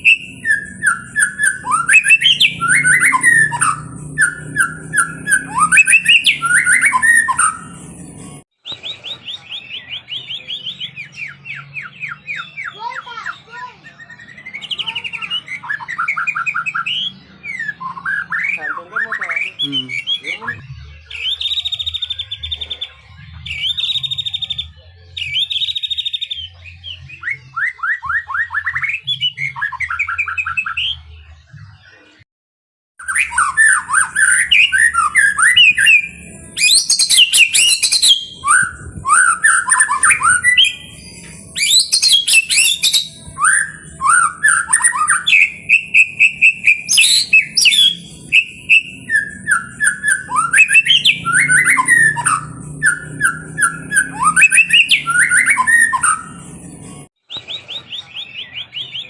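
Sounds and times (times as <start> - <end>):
songbird singing: 0.0 - 31.7, 33.0 - 59.0.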